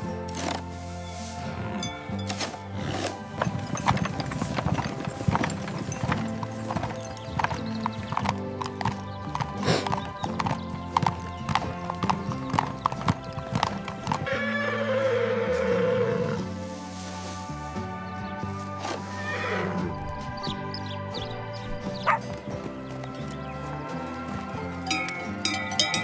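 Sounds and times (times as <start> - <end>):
background music: 0.0 - 26.0
horse hooves clopping: 0.0 - 26.0.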